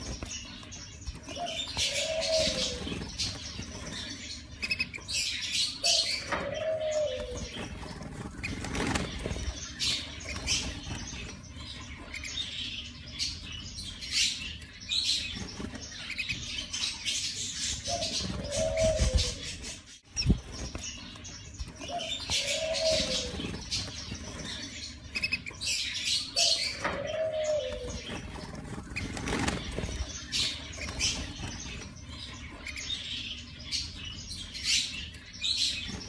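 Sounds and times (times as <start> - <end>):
canaries fluttering wings: 0.0 - 36.0
canary chirps: 0.0 - 36.0.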